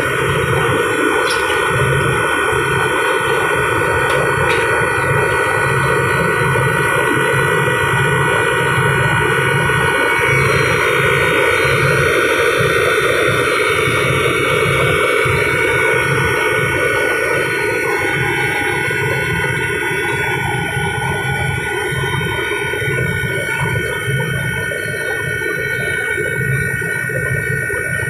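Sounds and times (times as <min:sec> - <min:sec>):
compressor hum with whine: 0:00.0 - 0:28.0
low uneven throb: 0:00.0 - 0:28.0.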